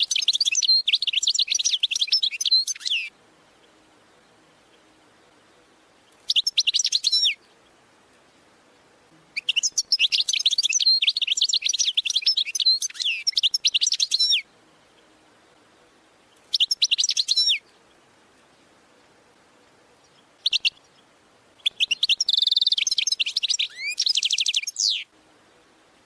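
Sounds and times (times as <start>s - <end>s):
bird chirps and trills: 0.0s - 25.9s.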